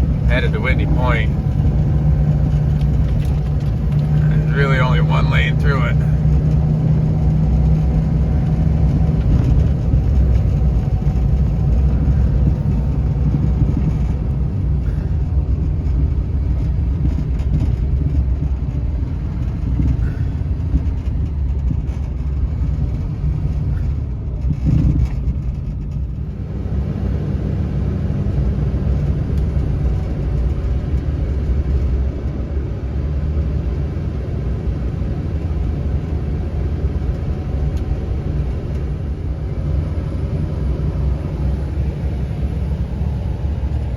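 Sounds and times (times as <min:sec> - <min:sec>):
pickup truck engine rumble: 0:00.0 - 0:43.9
tyre noise on snowy road: 0:00.0 - 0:43.9.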